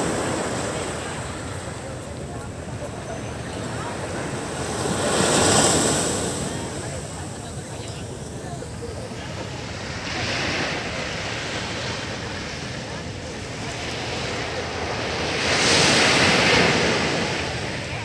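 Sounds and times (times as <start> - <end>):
sea waves breaking on beach: 0.0 - 18.0.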